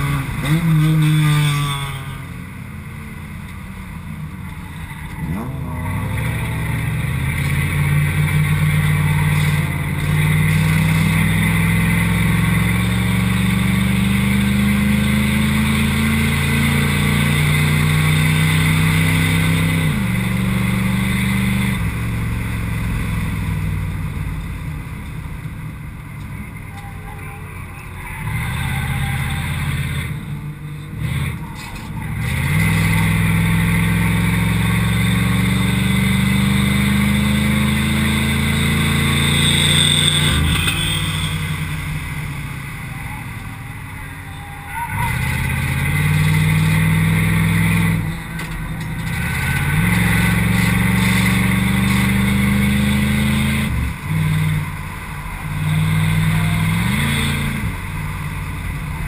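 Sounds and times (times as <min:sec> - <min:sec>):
car engine running hard: 0:00.0 - 0:26.7, 0:27.6 - 0:59.0.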